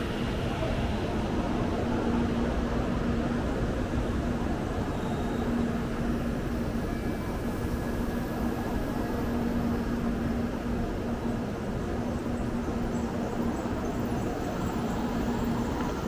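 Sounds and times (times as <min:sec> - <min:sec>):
train rolling rumble and hiss: 0:00.0 - 0:16.0.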